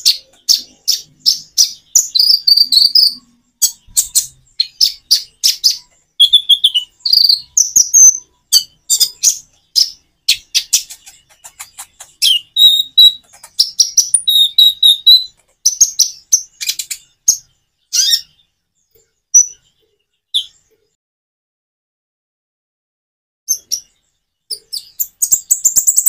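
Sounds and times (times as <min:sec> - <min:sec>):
bird chirps and twittering trills: 0:00.0 - 0:21.0, 0:23.5 - 0:26.0.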